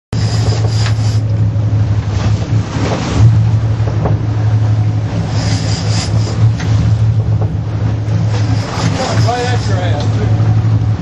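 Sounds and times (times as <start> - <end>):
boat engines droning: 0.1 - 11.0
wind buffeting microphone: 0.2 - 11.0.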